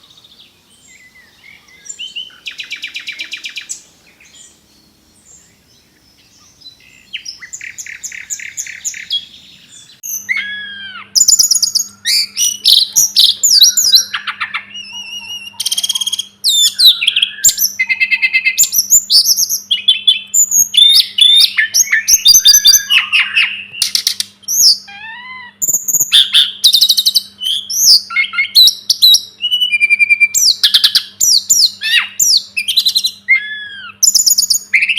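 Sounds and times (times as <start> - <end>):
songbird singing: 0.0 - 34.9
steady low hum: 0.0 - 34.9.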